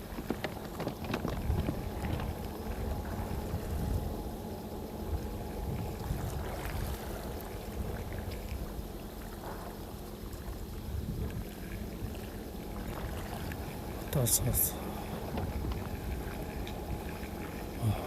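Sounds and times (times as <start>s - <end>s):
faint constant hum: 0.0s - 18.0s
low outdoor rumble: 0.0s - 18.0s.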